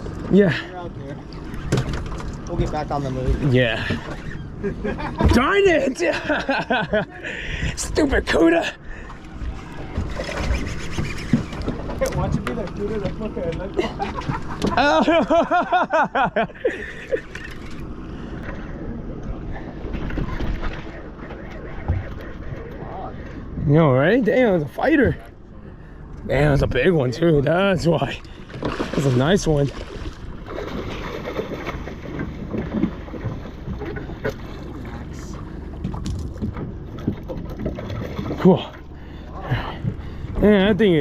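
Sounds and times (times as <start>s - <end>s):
boat engine running: 0.0s - 41.0s
water noise: 0.0s - 41.0s
wind: 0.0s - 41.0s.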